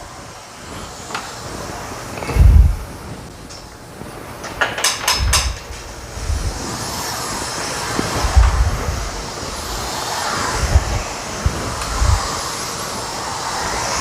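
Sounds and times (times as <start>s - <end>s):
steam mop hissing: 0.0s - 14.0s.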